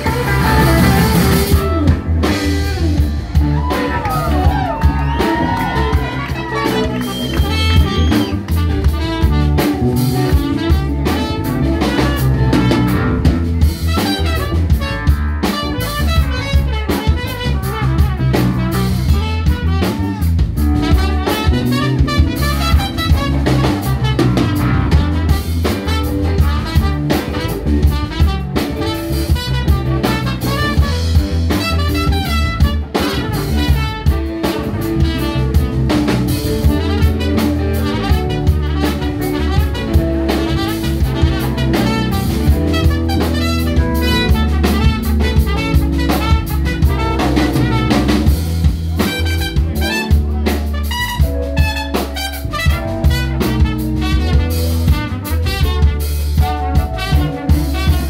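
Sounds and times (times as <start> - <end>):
blues-rock band playing: 0.0 - 58.0.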